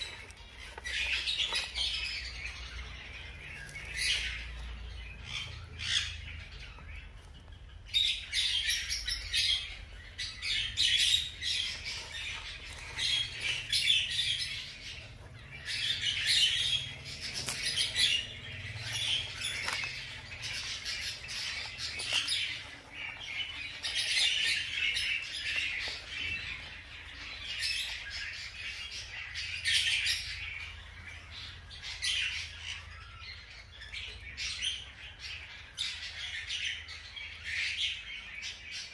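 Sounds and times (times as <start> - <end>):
small animals chirping and squeaking: 0.0 - 38.9.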